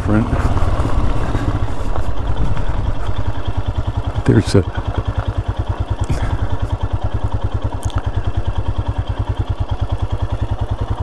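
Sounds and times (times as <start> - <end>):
motorcycle engine running slowly: 0.0 - 11.0.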